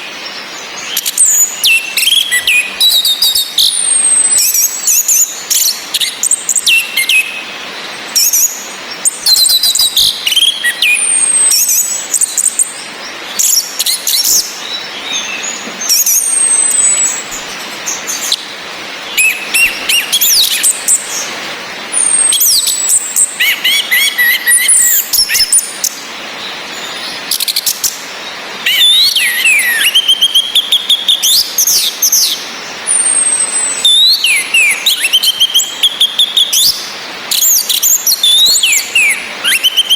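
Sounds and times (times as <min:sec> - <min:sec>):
bird song phrases: 0:00.0 - 0:39.9
rain hiss: 0:00.0 - 0:39.9.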